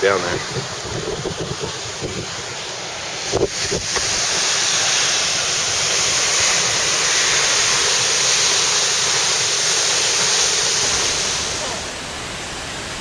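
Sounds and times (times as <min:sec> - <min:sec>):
waterfall rushing: 0:01.6 - 0:13.0.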